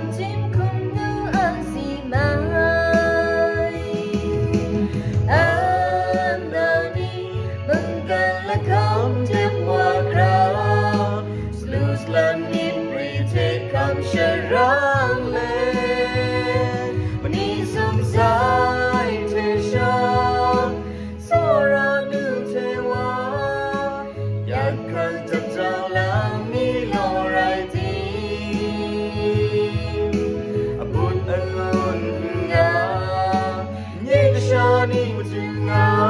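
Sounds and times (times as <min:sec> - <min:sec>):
backing track with bass line: 0:00.0 - 0:36.0
man and woman singing together: 0:00.0 - 0:36.0.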